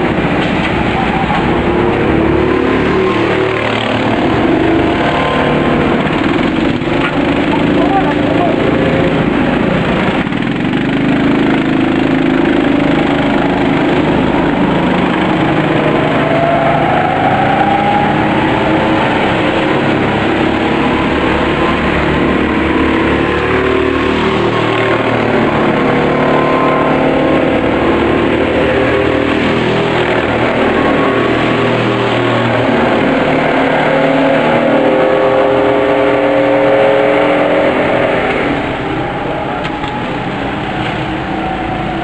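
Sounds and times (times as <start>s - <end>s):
go-kart engines revving: 0.0s - 42.0s.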